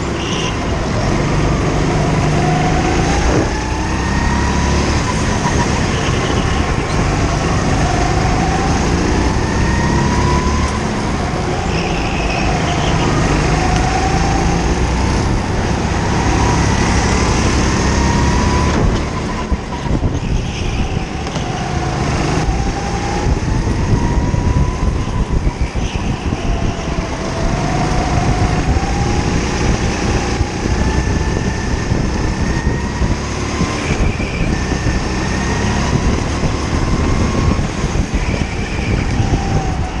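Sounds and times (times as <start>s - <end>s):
go-kart engine revving: 0.0s - 25.3s, 25.9s - 40.0s.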